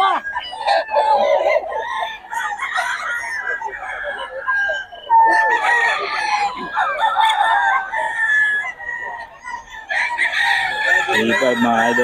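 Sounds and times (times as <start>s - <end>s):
roosters crowing: 0.0s - 12.0s.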